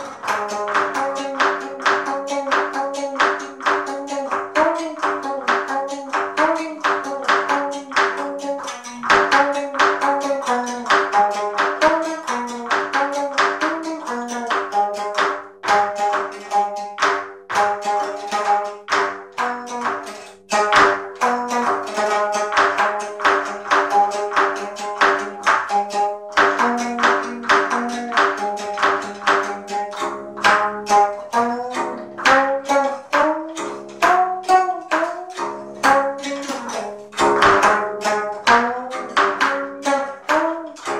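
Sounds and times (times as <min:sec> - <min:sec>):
plucked zither notes: 0:00.0 - 0:40.9.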